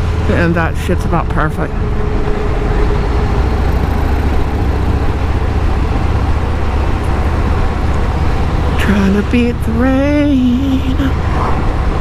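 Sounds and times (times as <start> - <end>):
motorcycle engine drone: 0.0 - 12.0
wind and road noise: 0.0 - 12.0.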